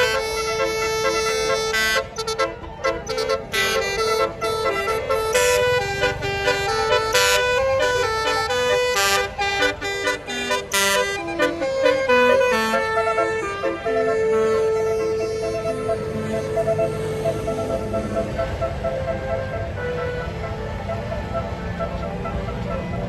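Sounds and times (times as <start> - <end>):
loud horn bursts: 0.0 - 18.6
musical air horn melody: 0.0 - 23.0.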